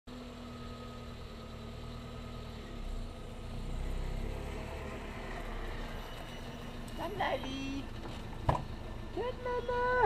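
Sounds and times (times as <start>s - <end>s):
truck engine rumble: 0.1s - 10.0s.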